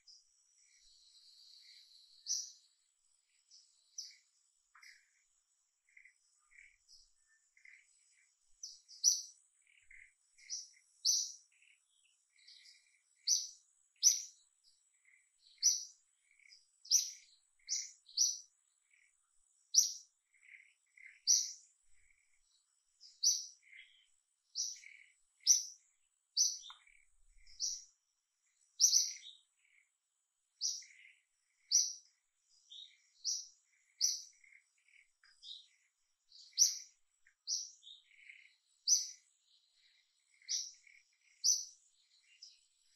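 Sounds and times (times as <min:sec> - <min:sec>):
small bird chirping: 0:00.0 - 0:42.9.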